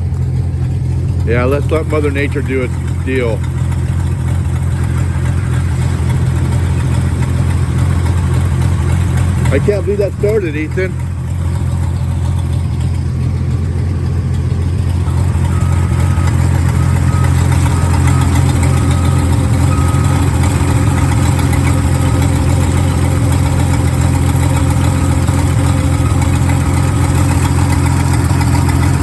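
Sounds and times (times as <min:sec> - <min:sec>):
truck engine idling: 0:00.0 - 0:29.0.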